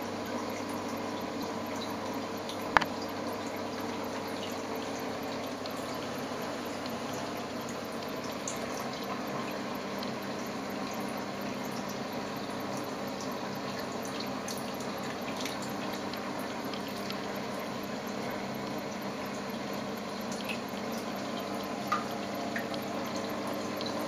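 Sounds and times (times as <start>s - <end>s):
small water drips: 0.0s - 24.0s
trickle of moving water: 0.0s - 24.0s.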